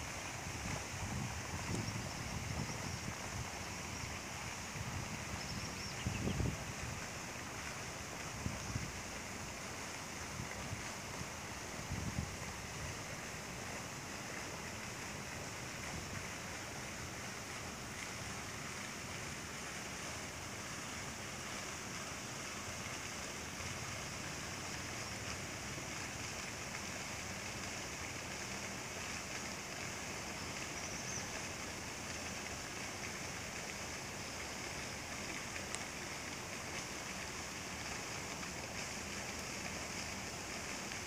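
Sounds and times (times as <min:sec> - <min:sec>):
fountain water splashing: 0:00.0 - 0:41.0.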